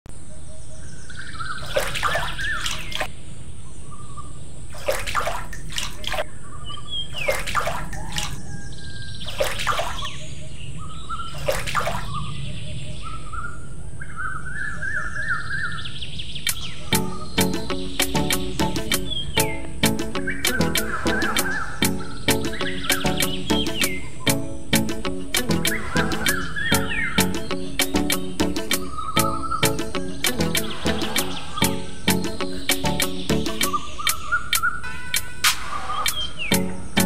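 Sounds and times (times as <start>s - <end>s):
birds chirping and calling: 0.2s - 4.6s, 6.0s - 37.0s.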